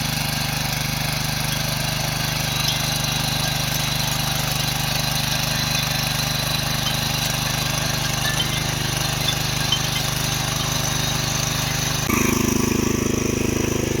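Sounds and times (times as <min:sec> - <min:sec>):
power weeder engine running: 0:00.0 - 0:14.0.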